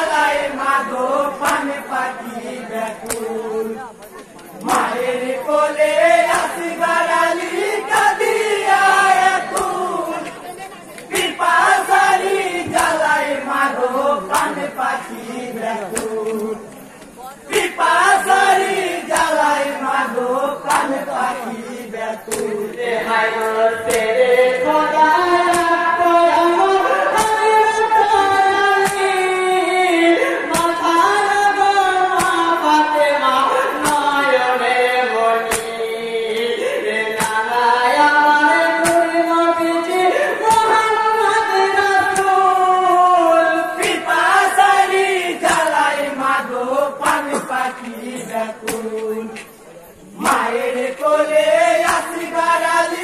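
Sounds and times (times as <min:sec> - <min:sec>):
sharp beats: 0:00.0 - 0:29.9, 0:40.4 - 0:53.0
men chanting in group: 0:00.0 - 0:53.0.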